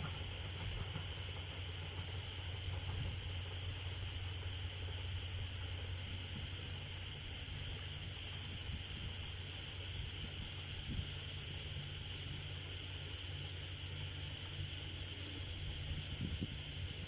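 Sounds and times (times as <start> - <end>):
low constant hum: 0.0 - 17.0
night insects chirring: 0.0 - 17.0.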